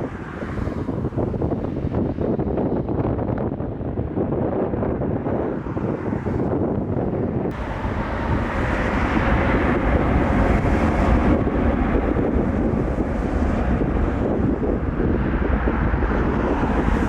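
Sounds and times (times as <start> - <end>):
jet engine noise: 0.0 - 17.0
wind buffeting microphone: 0.0 - 17.0.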